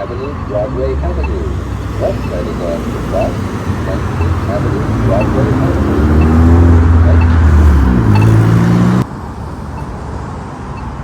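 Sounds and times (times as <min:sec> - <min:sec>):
crosswalk button locator tick: 0:00.0 - 0:08.6, 0:09.7 - 0:10.0
loud vehicle engine running: 0:00.0 - 0:11.0
traffic noise: 0:00.0 - 0:11.0.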